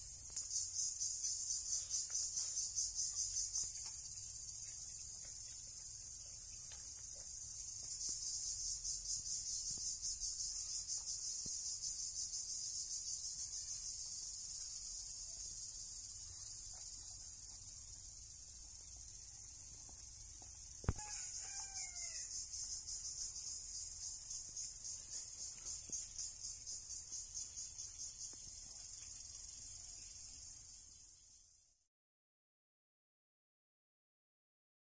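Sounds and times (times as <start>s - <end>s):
insects trilling: 0.0s - 31.8s.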